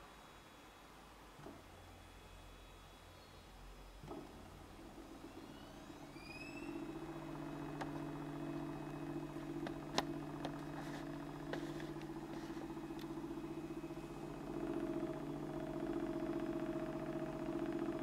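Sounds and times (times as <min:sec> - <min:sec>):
engine buzzing hum: 0:01.3 - 0:18.0.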